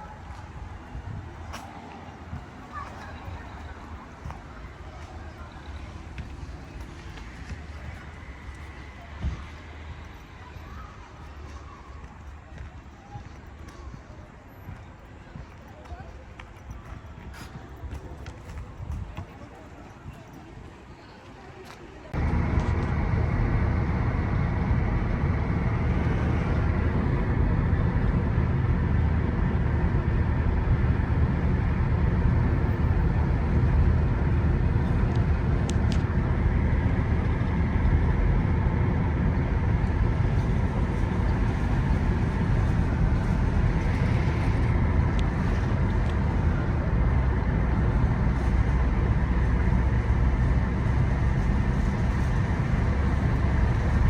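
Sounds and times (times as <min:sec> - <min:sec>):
car engine and tyre rumble: 0:00.0 - 0:20.7, 0:22.1 - 0:54.0.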